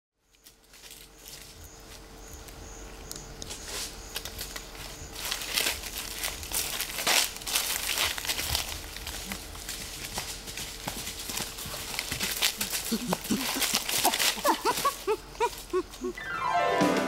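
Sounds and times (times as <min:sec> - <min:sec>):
low steady hum: 0:00.2 - 0:17.0
dry leaves rustling and crackling: 0:00.3 - 0:16.2.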